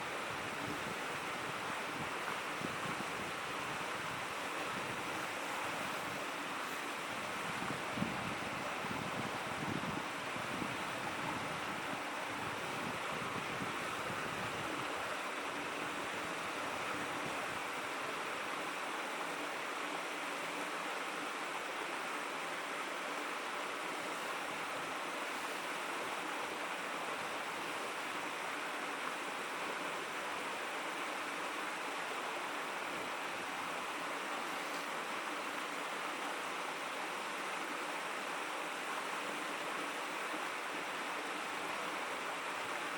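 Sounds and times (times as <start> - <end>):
shallow stream babbling: 0.0 - 42.9.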